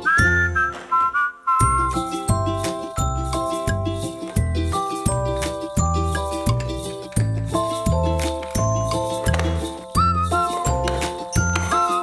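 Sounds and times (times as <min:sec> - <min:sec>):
upbeat children's tune with whistling: 0:00.0 - 0:03.8, 0:04.4 - 0:12.0.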